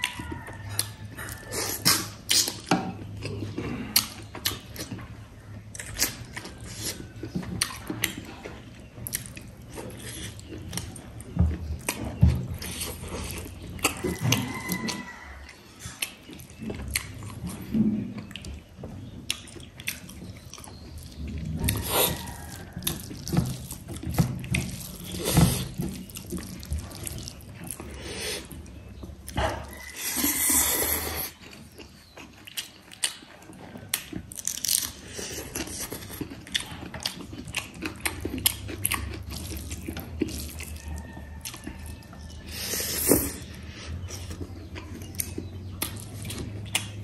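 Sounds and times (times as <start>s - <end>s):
wet chewing and lip smacking: 0.0s - 47.0s.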